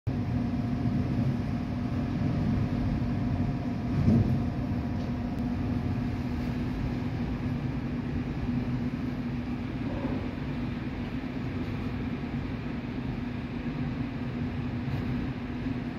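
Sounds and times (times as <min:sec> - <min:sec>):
steady hum: 0:00.1 - 0:15.9
storm wind rumbling: 0:00.1 - 0:15.9.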